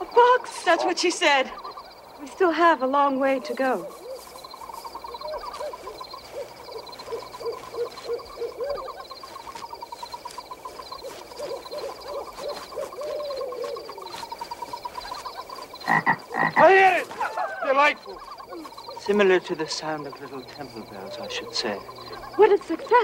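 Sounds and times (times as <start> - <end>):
owl hooting: 0.5 - 23.0.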